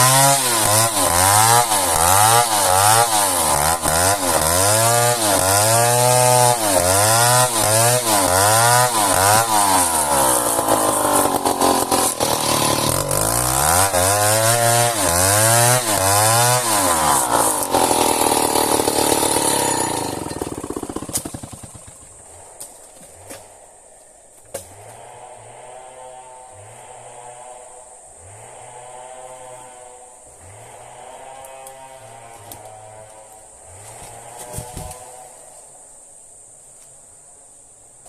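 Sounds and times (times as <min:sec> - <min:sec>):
chainsaw cutting wood: 0:00.0 - 0:23.6, 0:24.4 - 0:35.5.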